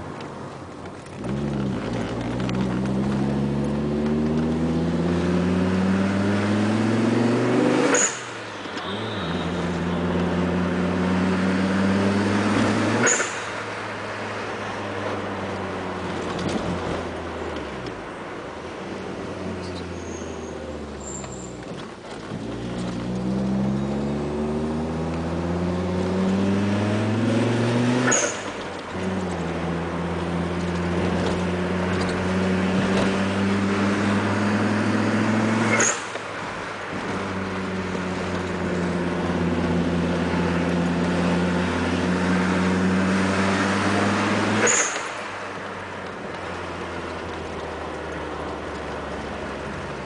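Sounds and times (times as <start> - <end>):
turbocharged engine accelerating: 1.0 - 50.0.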